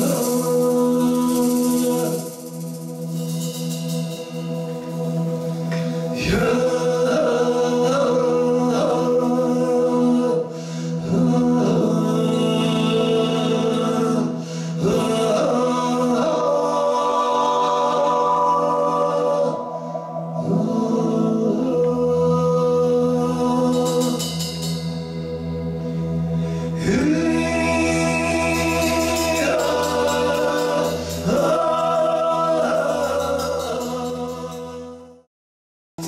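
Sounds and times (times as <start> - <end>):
man singing sliding notes: 0.0 - 25.8, 26.6 - 35.3.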